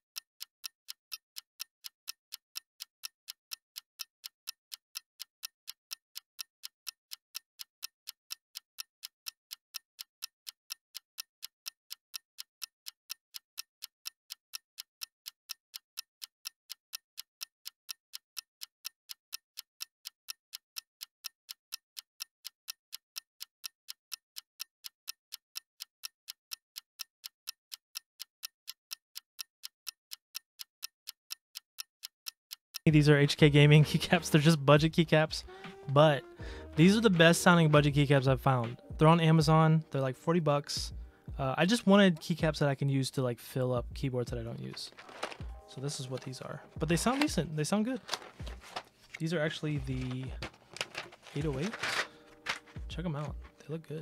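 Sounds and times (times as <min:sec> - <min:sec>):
clock-like ticking: 0:00.1 - 0:42.6, 0:43.8 - 0:53.5.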